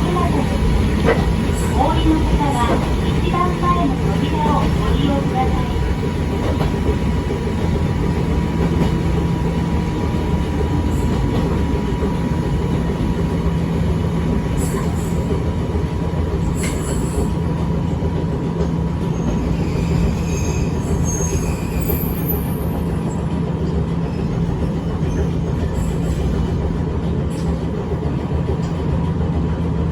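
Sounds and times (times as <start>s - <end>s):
railcar rumbling on track: 0.0s - 29.9s.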